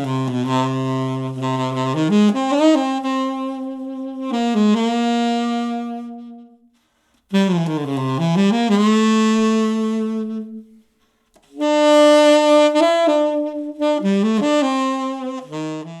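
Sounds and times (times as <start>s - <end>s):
saxophone long held notes: 0.0s - 10.8s, 11.4s - 16.0s.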